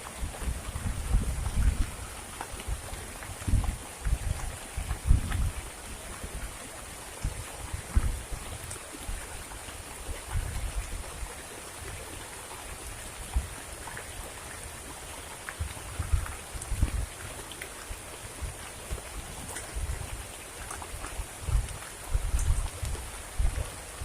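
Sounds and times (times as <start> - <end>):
wind gusting on microphone: 0.0 - 12.1, 15.6 - 24.0
heavy rain hiss: 0.0 - 24.0.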